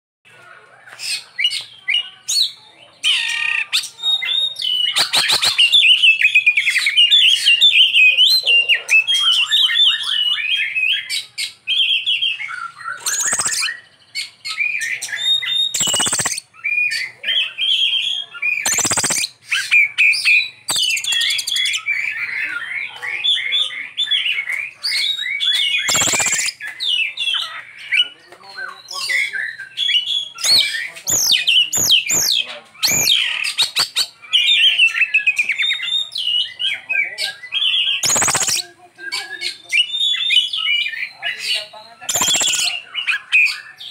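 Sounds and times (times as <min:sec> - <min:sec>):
harsh bird calls: 0:00.3 - 0:43.9
bird singing chirps and whistles: 0:01.4 - 0:43.9.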